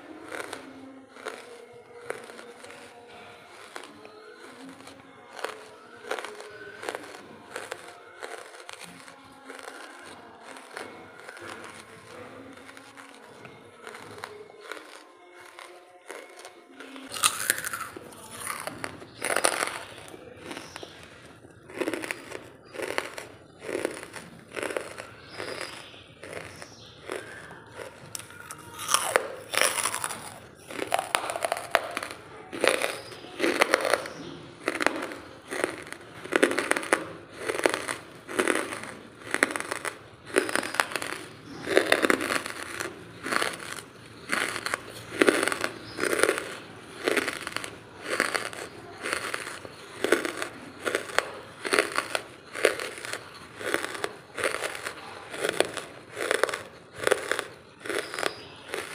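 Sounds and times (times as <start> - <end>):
charcoal crunching when chewed: 0.0 - 58.9.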